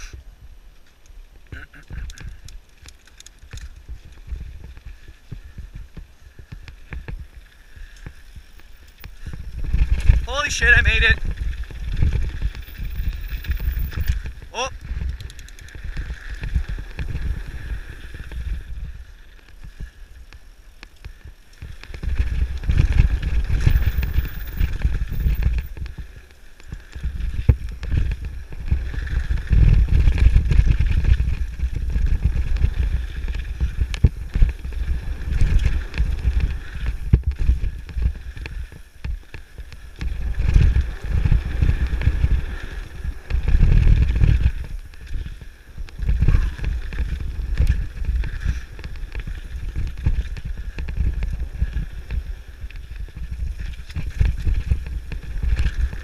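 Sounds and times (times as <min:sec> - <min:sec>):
bike rattling: 0:00.0 - 0:56.0
wind rumble on microphone: 0:00.0 - 0:56.0.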